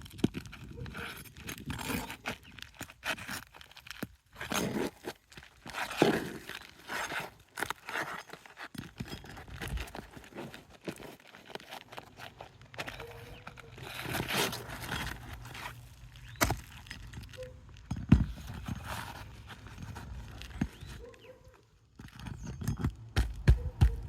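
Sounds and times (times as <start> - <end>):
roof shingles crunching and tearing: 0.0 - 24.0.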